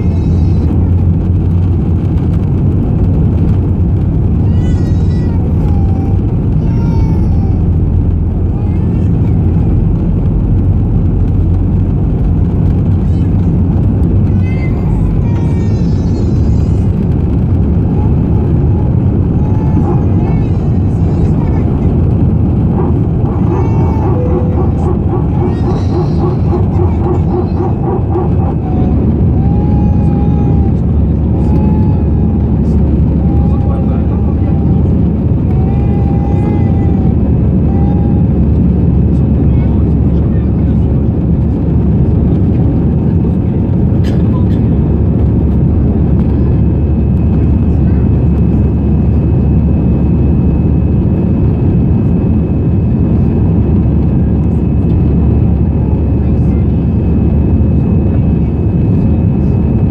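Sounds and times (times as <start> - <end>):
airplane cabin engine roar: 0.0 - 59.9
steady engine whine: 0.0 - 59.9.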